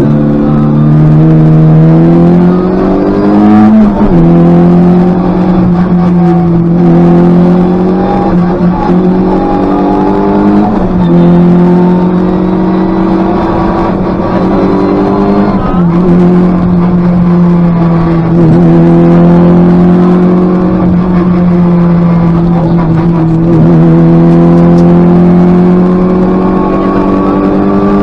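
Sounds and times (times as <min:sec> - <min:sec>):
rally car engine at full throttle: 0:00.0 - 0:28.0.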